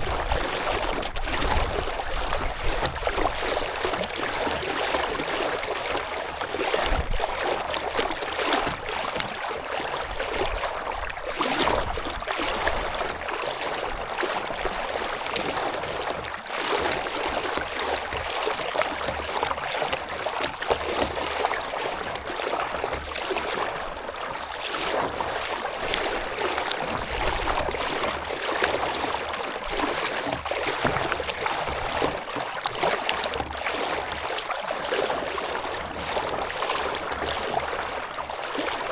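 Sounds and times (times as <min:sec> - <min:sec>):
water splashing around canoe: 0:00.0 - 0:38.9.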